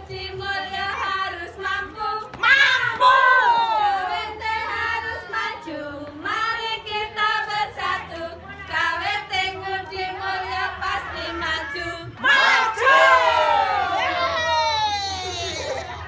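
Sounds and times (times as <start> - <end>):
women singing in unison: 0.0 - 13.8.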